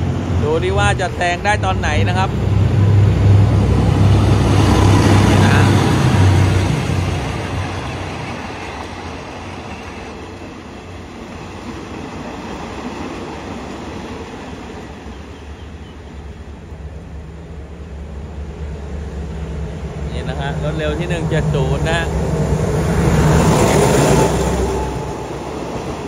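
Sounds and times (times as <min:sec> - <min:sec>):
locomotive engine passing: 0:00.0 - 0:26.0
train wheels rumbling on track: 0:00.0 - 0:26.0.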